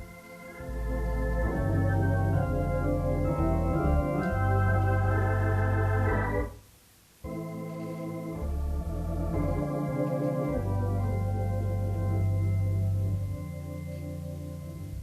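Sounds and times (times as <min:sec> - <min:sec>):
organ playing sustained chords: 0:00.0 - 0:06.6, 0:07.2 - 0:15.0.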